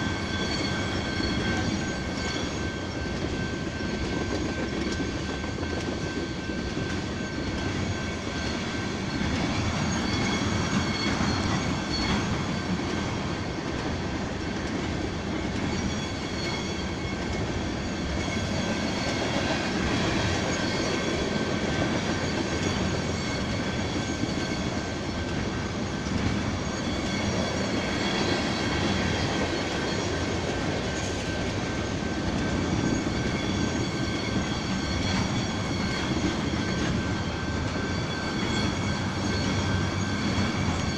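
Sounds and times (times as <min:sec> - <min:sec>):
high squeal: 0:00.0 - 0:40.9
train wheels rumbling on rails: 0:00.0 - 0:40.9.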